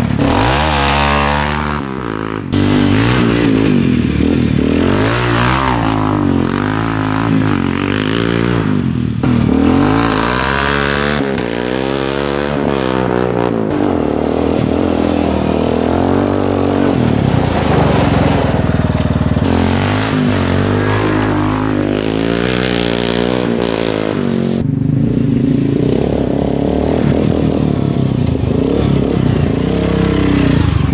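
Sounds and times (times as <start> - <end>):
quad bike engine revving: 0.0 - 30.9.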